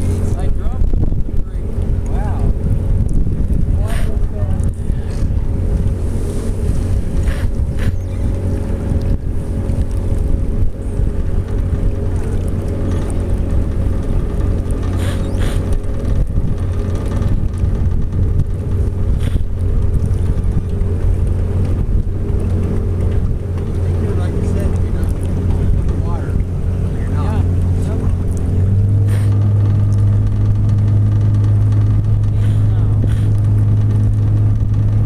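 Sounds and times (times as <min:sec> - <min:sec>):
outboard motor droning: 0:00.0 - 0:35.0
wind noise on microphone: 0:00.0 - 0:35.0.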